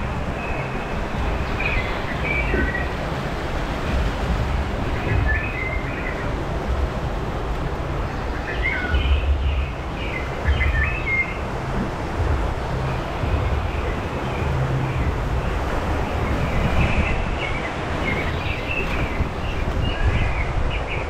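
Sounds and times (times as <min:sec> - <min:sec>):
birds chirping: 0:00.0 - 0:21.0
rushing water of rapids: 0:00.0 - 0:21.0.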